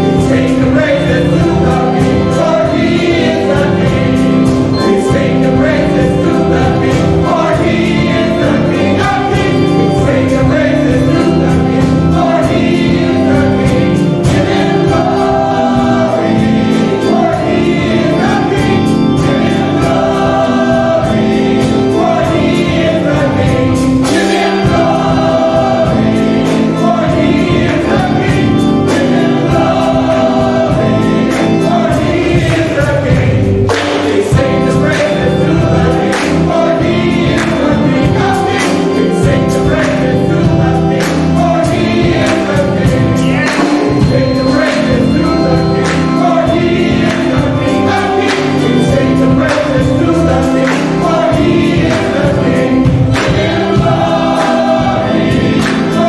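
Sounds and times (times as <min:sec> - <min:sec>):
gospel choir singing: 0:00.0 - 0:56.0
organ accompaniment: 0:00.0 - 0:56.0
singers clapping along: 0:00.0 - 0:56.0
steady beat: 0:00.0 - 0:56.0.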